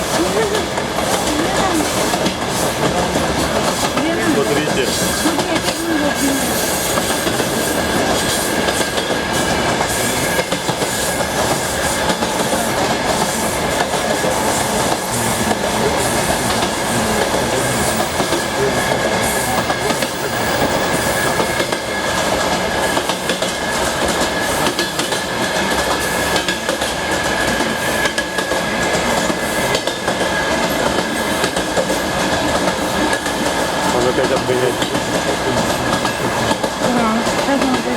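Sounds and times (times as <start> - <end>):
train wheels rumbling on rails: 0.0 - 37.9
wheels clacking over rail joints: 0.0 - 37.9.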